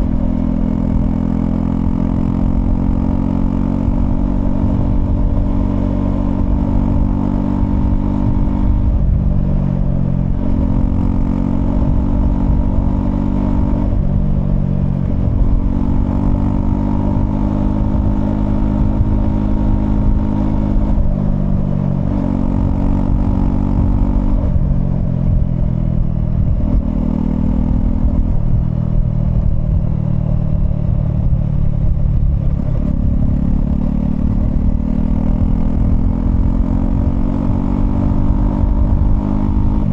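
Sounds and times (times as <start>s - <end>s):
motorcycle engine shifting gears: 0.0s - 39.9s
wind and road rumble: 0.0s - 39.9s.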